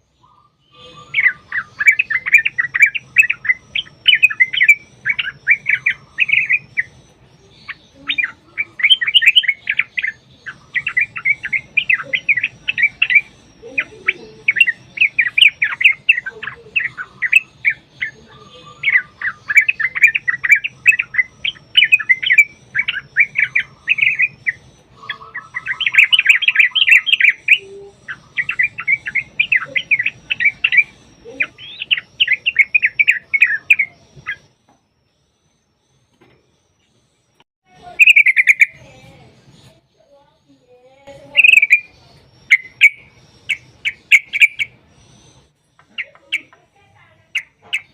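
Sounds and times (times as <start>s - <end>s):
birds singing chattering chirps: 0.0s - 47.9s.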